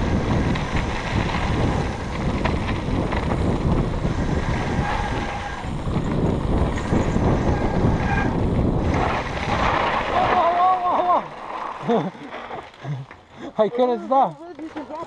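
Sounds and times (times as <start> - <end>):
wind buffeting microphone: 0.0 - 12.2
bike clicks: 0.0 - 15.0
bike rolling on dirt trail: 0.0 - 15.0.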